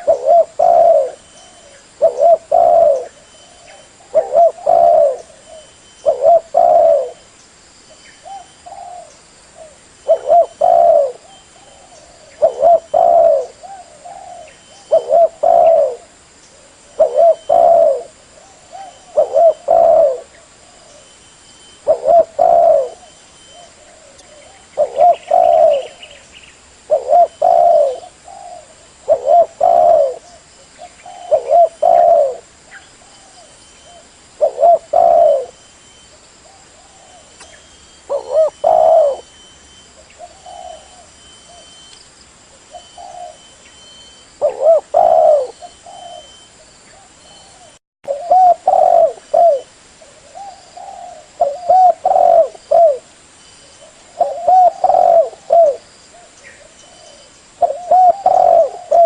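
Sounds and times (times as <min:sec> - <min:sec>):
dove cooing: 0:00.0 - 0:07.2, 0:08.2 - 0:26.2, 0:26.8 - 0:41.9, 0:42.6 - 0:53.1, 0:53.7 - 0:59.0.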